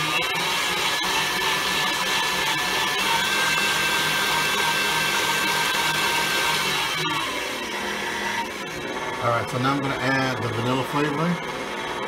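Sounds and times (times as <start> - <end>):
electric mixer running: 0.0 - 12.0.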